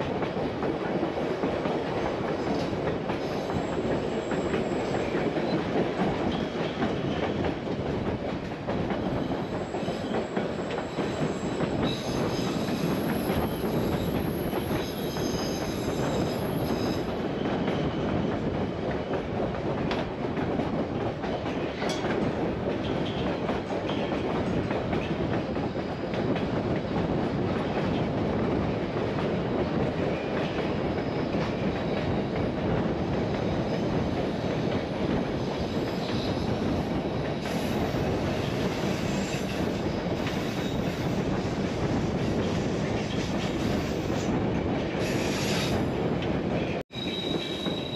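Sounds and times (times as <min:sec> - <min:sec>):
train wheels rumbling and clattering: 0:00.0 - 0:47.9.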